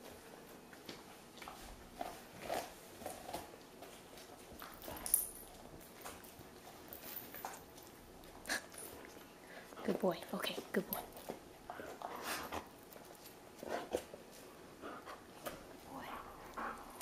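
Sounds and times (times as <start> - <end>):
dog chewing and crunching: 0.0 - 10.0, 10.8 - 17.0.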